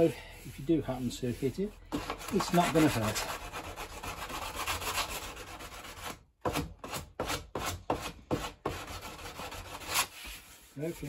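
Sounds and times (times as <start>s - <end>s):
sandpaper rubbing wood: 0.0s - 6.2s, 7.3s - 11.0s.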